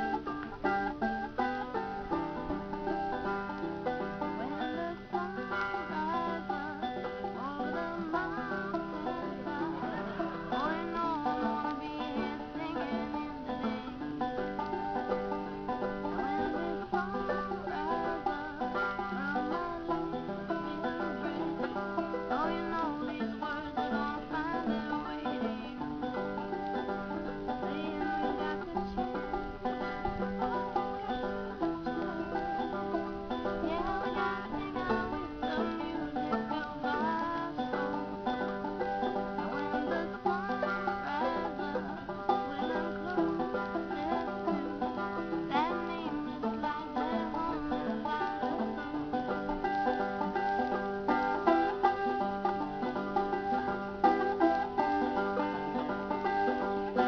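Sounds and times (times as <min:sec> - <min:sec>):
banjo: 0:00.0 - 0:57.0
guitar picking: 0:00.0 - 0:57.0.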